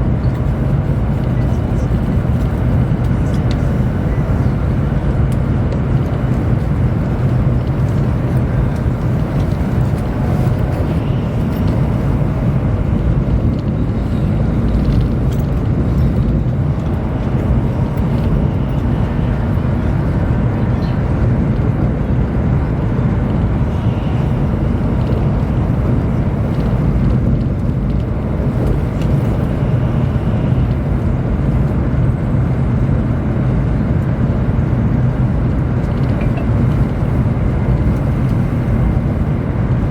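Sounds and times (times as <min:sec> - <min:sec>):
train rumbling at speed: 0:00.0 - 0:39.9.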